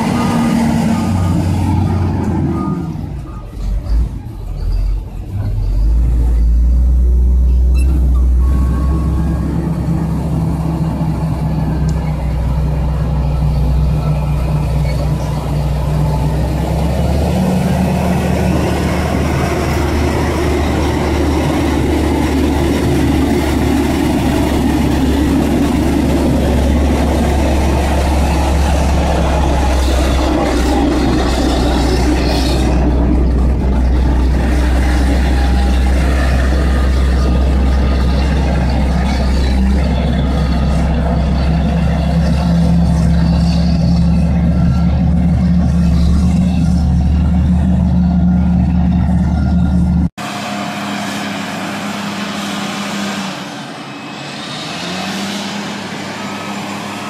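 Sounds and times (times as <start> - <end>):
diesel engine droning under load: 0.0 - 57.0.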